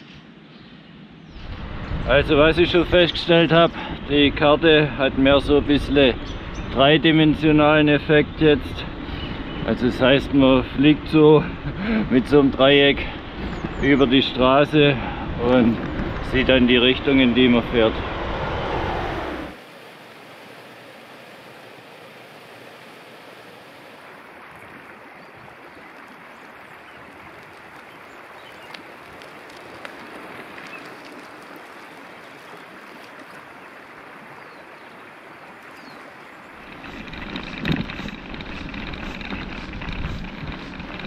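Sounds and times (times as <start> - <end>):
wind rumble on microphone: 1.2 - 19.6, 24.4 - 34.9, 35.8 - 41.0
running water: 1.6 - 41.0.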